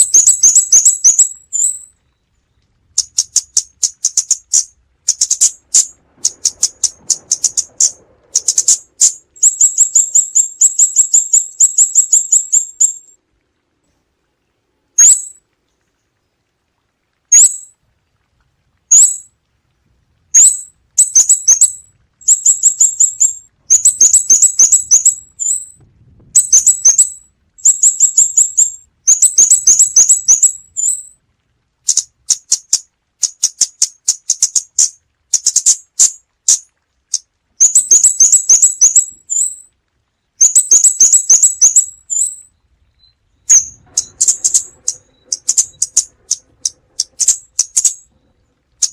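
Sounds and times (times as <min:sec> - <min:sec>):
bird high ticking calls: 0:00.0 - 0:01.9, 0:02.5 - 0:13.1, 0:15.0 - 0:15.4, 0:17.3 - 0:17.7, 0:18.9 - 0:19.3, 0:20.4 - 0:25.8, 0:26.4 - 0:31.1, 0:31.9 - 0:39.7, 0:40.4 - 0:48.9.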